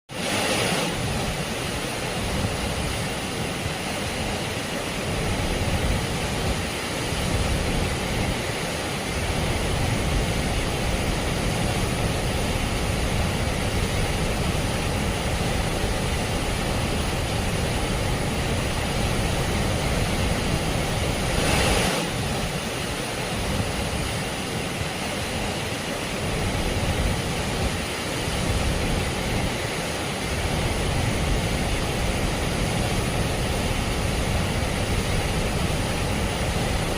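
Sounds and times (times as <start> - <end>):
flooded river rushing: 0.1 - 36.9.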